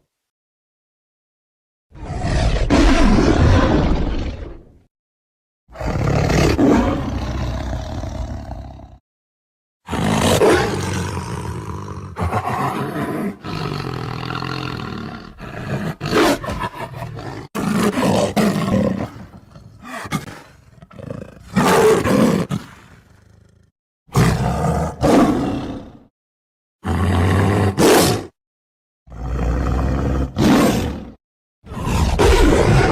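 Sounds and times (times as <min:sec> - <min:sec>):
lion roaring: 0:02.0 - 0:04.8, 0:05.7 - 0:09.0, 0:09.9 - 0:26.1, 0:26.8 - 0:28.3, 0:29.1 - 0:32.9.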